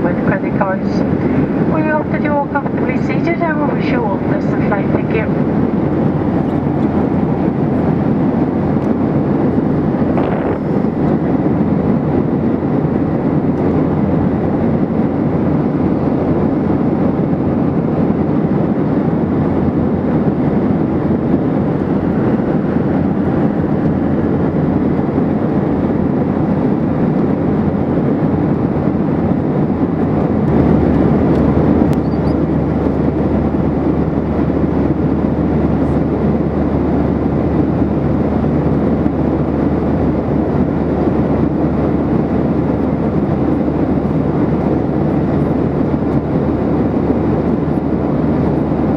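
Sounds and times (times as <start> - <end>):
airplane cabin engine rush: 0.0 - 48.9.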